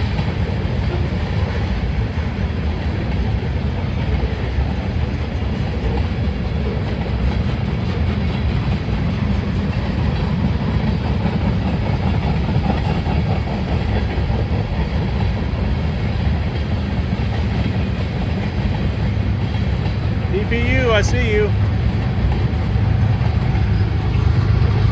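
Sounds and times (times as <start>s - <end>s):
train wheels rolling on rail: 0.0s - 24.9s.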